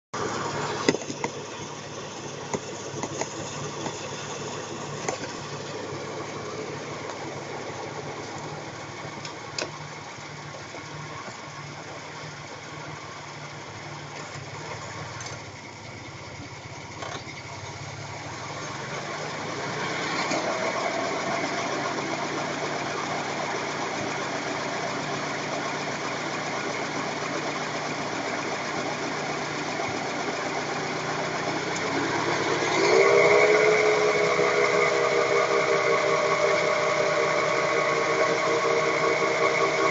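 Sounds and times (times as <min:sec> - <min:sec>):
car running: 0:00.2 - 0:39.9
wheel bearing hum: 0:00.2 - 0:39.9.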